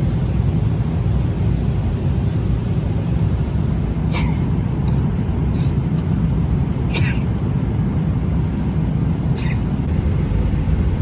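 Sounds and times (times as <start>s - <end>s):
airplane cabin rumble and hiss: 0.0s - 11.0s.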